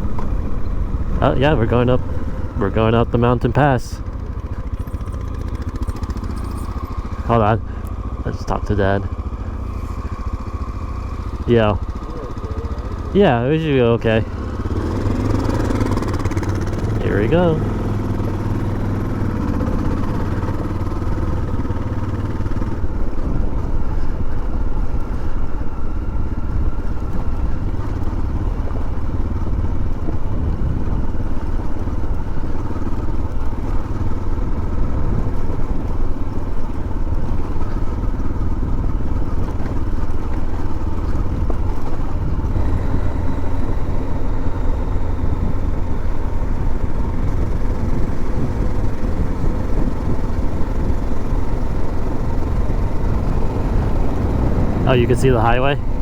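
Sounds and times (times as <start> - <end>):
motorcycle engine rumble: 0.0 - 56.0.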